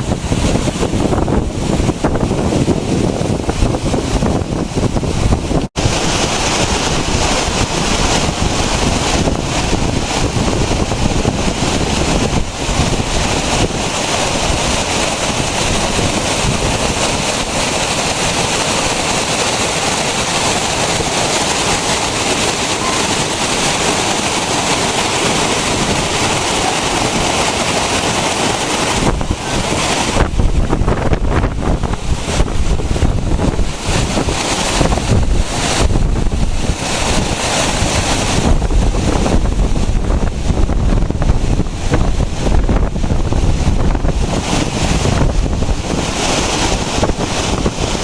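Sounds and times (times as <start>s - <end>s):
waterfall rushing: 0.0s - 48.0s
wind buffeting microphone: 0.0s - 48.0s.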